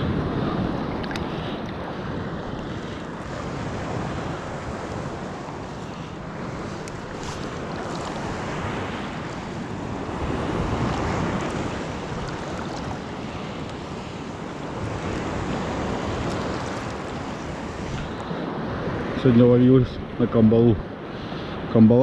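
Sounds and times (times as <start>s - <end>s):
sea surf washing on shore: 0.0s - 22.0s
wind buffeting microphone: 0.0s - 22.0s.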